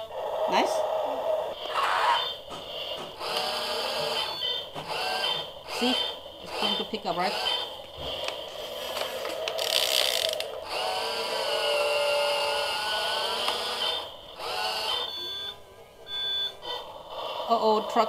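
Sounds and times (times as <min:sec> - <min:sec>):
toy gear motors whining: 0:01.2 - 0:18.0.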